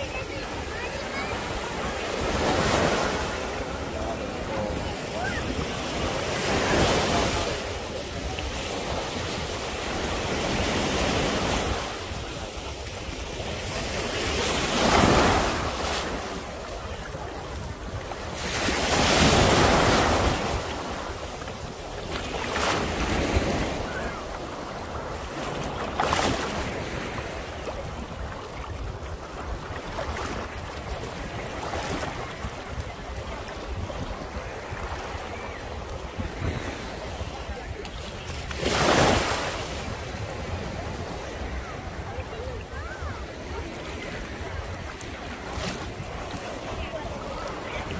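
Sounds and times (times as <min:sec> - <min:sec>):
small waves breaking on shore: 0:00.0 - 0:47.9.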